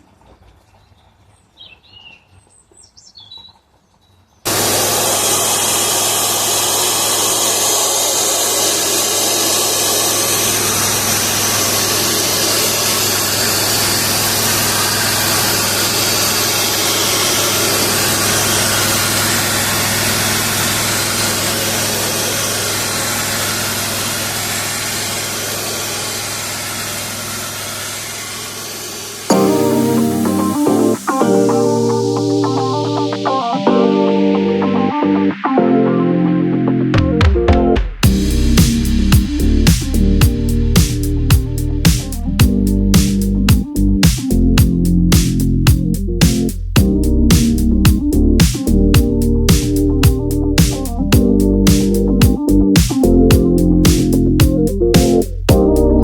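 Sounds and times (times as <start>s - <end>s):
cleaning machine running: 4.5s - 33.6s, 38.0s - 44.2s, 46.2s - 56.0s.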